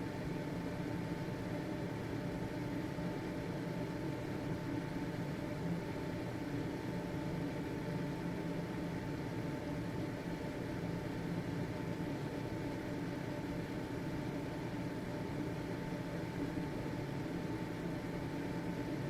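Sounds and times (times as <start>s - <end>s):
ventilation fan running: 0.0s - 19.0s.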